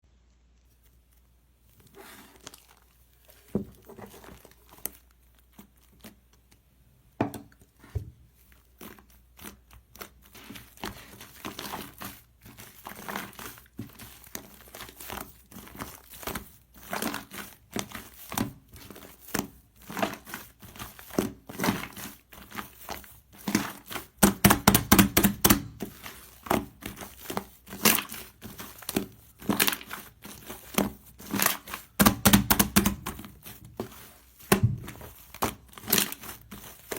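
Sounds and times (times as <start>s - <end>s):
crinkly material crumpling: 0.1s - 6.7s, 7.6s - 36.9s.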